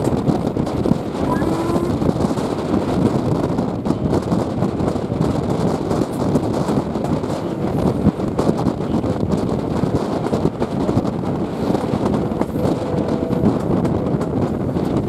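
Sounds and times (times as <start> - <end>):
moving train running noise: 0.0 - 15.0
wind buffeting microphone: 0.0 - 15.0.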